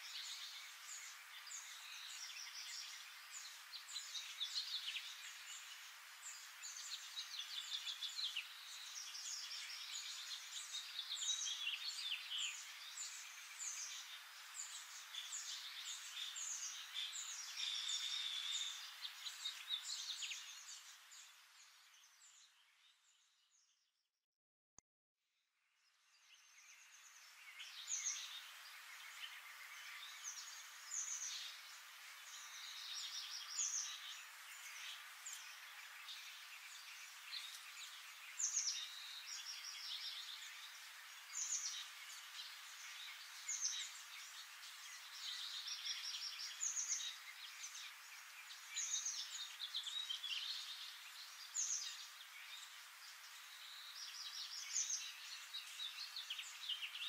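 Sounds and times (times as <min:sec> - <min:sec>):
steady high hiss: 0:00.0 - 0:22.8, 0:26.1 - 0:57.0
birds chirping and trilling: 0:00.0 - 0:23.7, 0:26.1 - 0:57.0.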